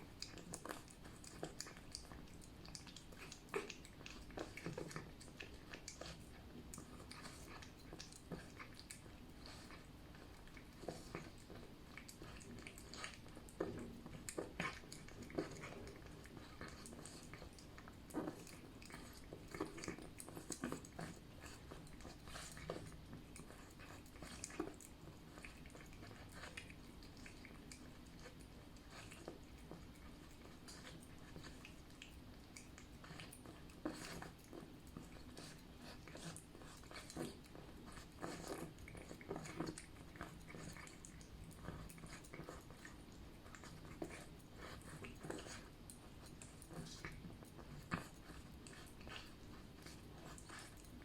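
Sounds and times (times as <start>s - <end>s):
cat chewing and smacking: 0.0s - 51.0s.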